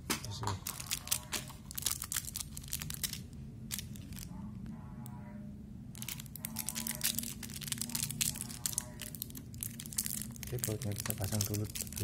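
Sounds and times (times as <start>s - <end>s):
plastic packet crinkling: 0.6s - 4.3s, 6.0s - 12.0s.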